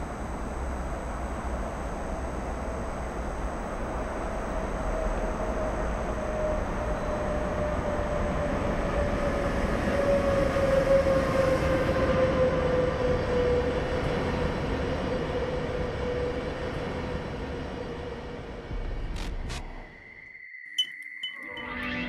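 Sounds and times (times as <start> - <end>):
freight train rumbling: 0.0 - 19.9.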